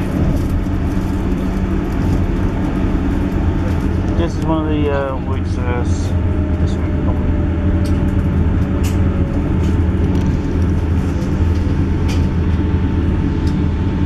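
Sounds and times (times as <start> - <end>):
train engine and wheels rumbling: 0.0 - 14.0.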